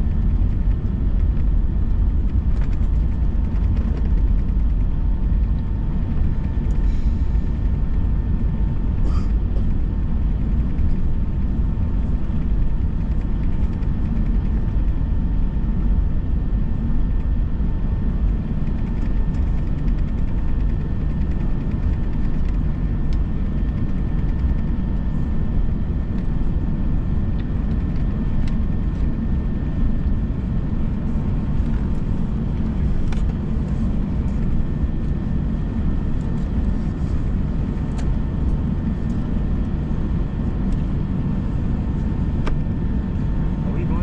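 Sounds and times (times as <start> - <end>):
aircraft cabin rumble: 0.0 - 44.0
faint steady whine: 0.0 - 44.0.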